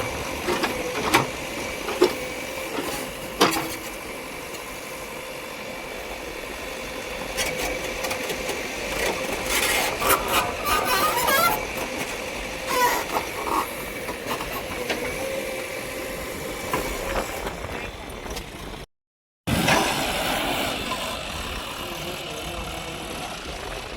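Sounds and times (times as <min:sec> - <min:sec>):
engine running steadily: 0:00.0 - 0:18.8, 0:19.5 - 0:23.9.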